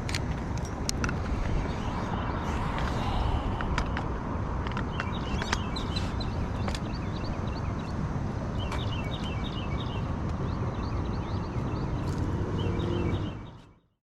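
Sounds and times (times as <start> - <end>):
low outdoor rumble: 0.0 - 13.3
small birds chirping: 0.6 - 13.9.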